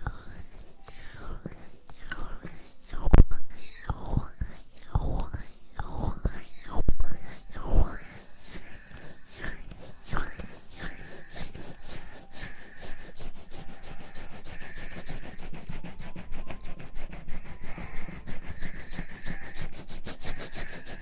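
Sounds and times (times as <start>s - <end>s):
rubbing and scratching on microphone: 0.0s - 21.0s.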